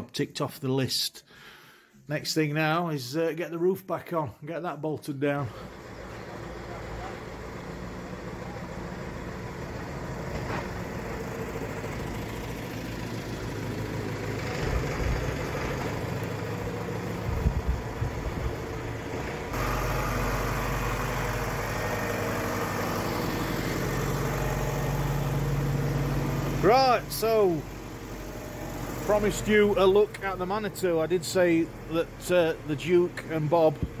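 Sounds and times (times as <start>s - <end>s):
tractor engine idling: 5.2s - 34.0s.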